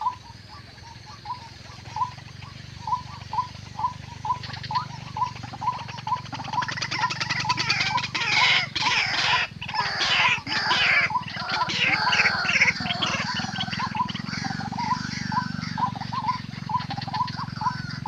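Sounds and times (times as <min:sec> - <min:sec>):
birds croaking and chattering: 0:00.0 - 0:18.0.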